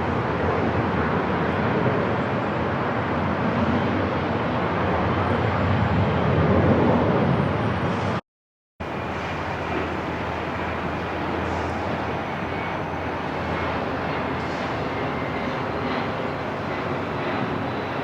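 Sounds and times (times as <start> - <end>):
airport background rumble: 0.0 - 8.2, 8.8 - 18.0.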